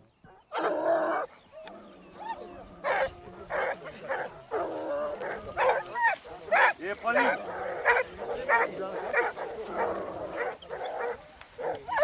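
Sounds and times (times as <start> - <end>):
hounds baying: 0.2 - 12.0.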